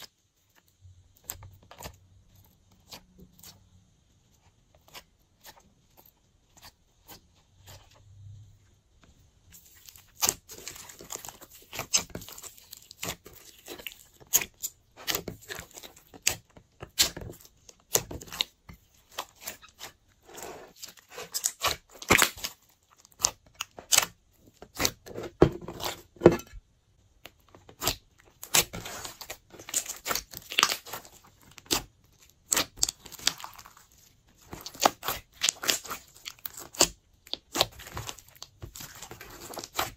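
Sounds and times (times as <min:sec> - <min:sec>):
slime kneaded by hand: 0:00.0 - 0:26.2, 0:27.2 - 0:39.9.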